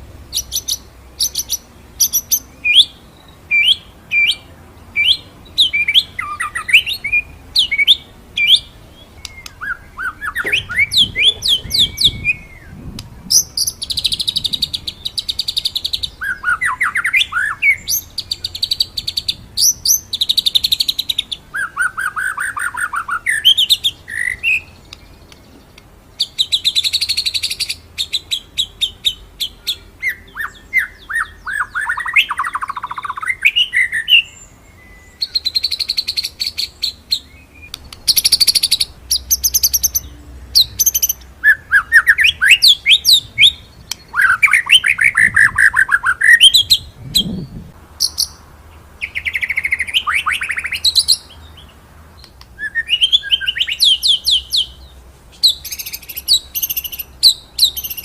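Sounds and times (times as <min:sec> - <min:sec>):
bird singing trills and sharp notes: 0:00.3 - 0:58.0.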